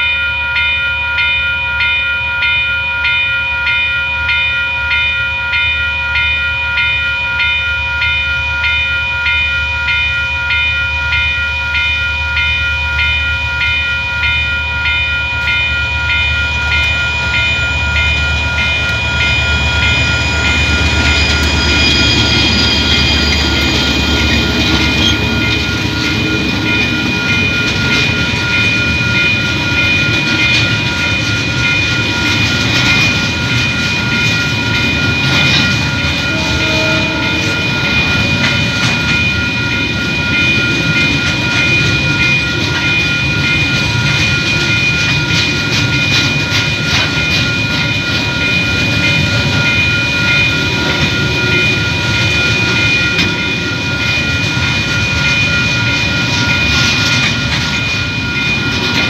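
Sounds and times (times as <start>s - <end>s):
level crossing alarm bell ringing: 0.0s - 59.0s
train rumble and rail noise: 0.0s - 59.0s.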